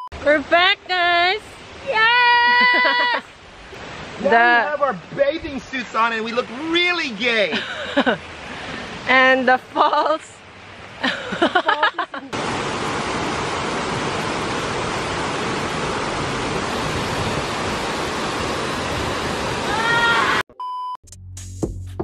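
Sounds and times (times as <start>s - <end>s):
waterfall rushing: 0.3s - 9.6s, 10.4s - 20.4s.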